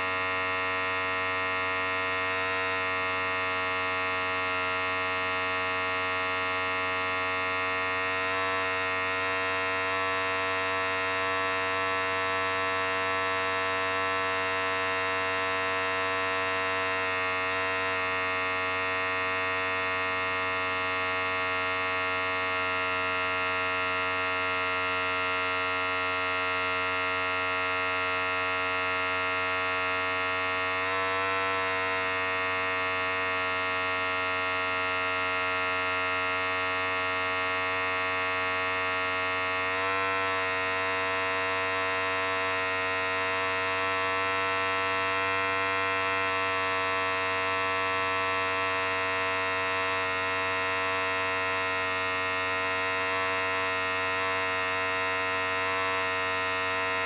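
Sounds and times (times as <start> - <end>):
electric hair clippers buzzing: 0.0 - 57.0.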